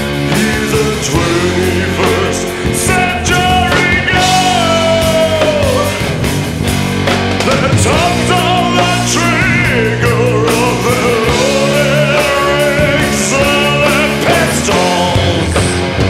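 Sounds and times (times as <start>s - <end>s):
rock music with singer: 0.0s - 16.0s.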